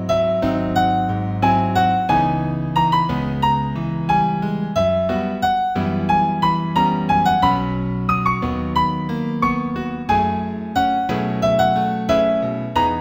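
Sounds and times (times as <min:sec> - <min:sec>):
new age instrumental music: 0:00.0 - 0:13.0
piano-like keyboard melody: 0:00.0 - 0:13.0.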